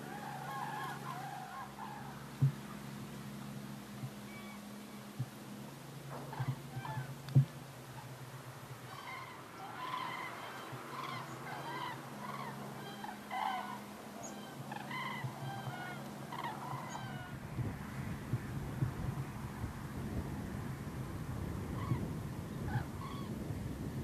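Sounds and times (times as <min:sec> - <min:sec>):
cranes bugling in flight: 0:00.0 - 0:24.0.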